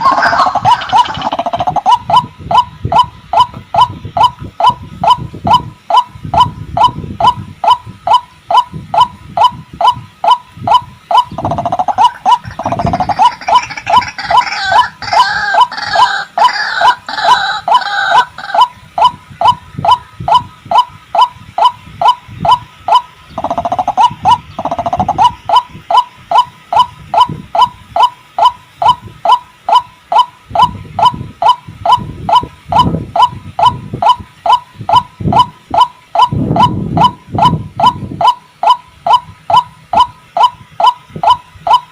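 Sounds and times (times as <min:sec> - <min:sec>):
harsh overlapping bird calls: 0:00.0 - 0:41.9
waterhen calling: 0:00.0 - 0:41.9.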